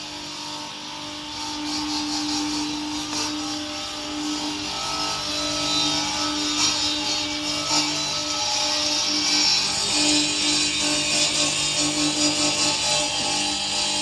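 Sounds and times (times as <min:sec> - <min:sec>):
stone cutting machine motor hum: 0:00.0 - 0:14.0.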